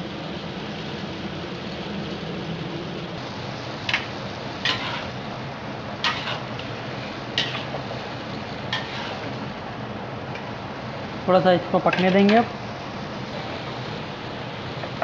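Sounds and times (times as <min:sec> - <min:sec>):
stew bubbling and sizzling: 0:00.0 - 0:11.3, 0:11.9 - 0:15.0.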